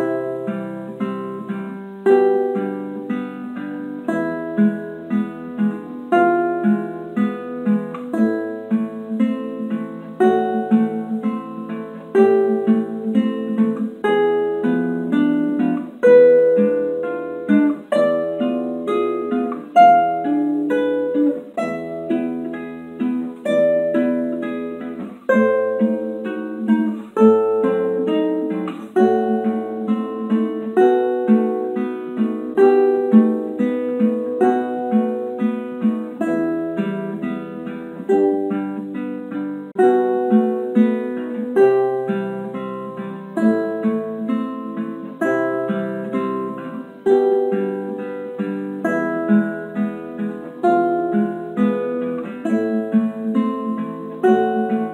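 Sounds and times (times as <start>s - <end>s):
fingerpicked classical guitar: 0.0s - 54.9s.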